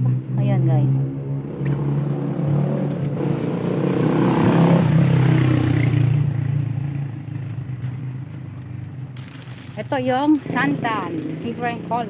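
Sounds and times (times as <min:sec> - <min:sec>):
vehicle engine passing by: 0:00.0 - 0:12.0.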